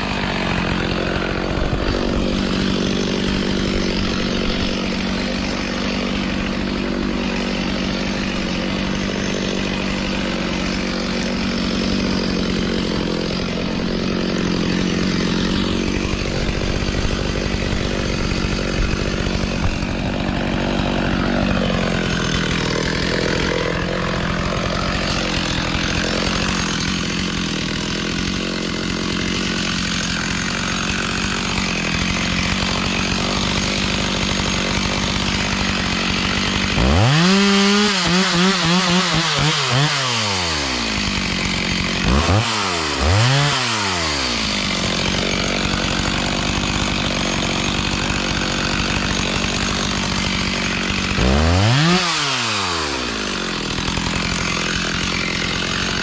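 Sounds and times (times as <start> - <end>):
chainsaw engine idling and revving: 0.0 - 56.0.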